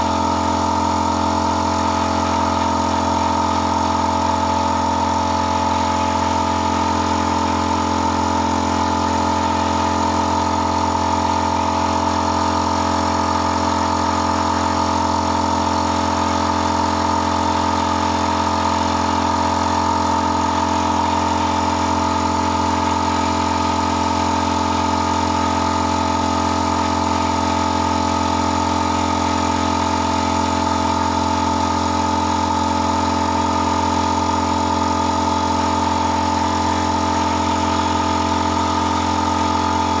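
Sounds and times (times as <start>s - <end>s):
motor humming steadily: 0.0s - 40.0s.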